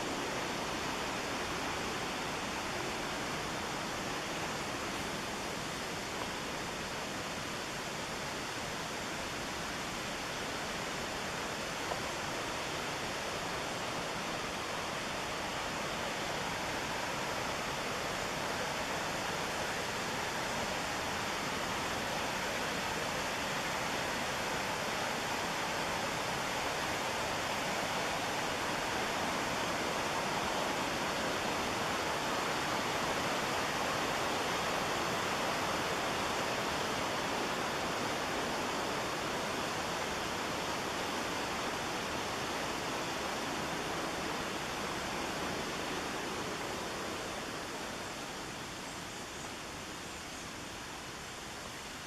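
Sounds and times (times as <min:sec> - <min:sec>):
whitewater river rushing: 0:00.0 - 0:52.0.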